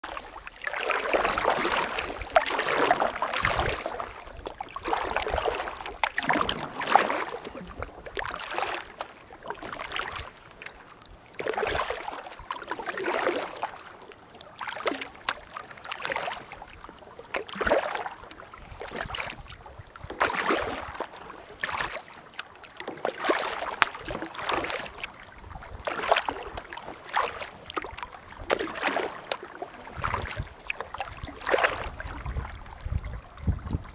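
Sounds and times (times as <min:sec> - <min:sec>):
kayak paddle splashing: 0:00.0 - 0:33.9.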